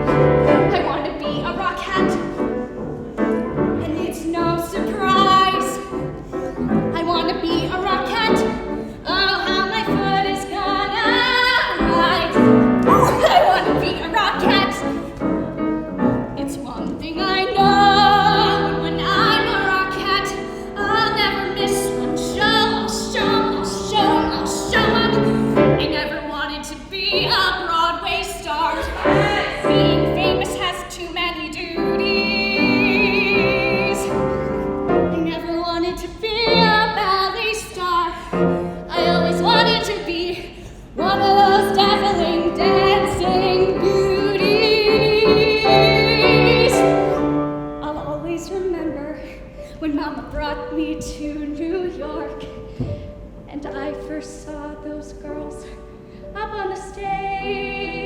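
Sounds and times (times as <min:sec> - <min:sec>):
woman singing with vibrato: 0:00.0 - 0:02.4, 0:06.9 - 0:15.2, 0:16.4 - 0:34.5, 0:35.1 - 0:52.7, 0:53.5 - 0:58.0
piano accompaniment: 0:00.0 - 0:58.0.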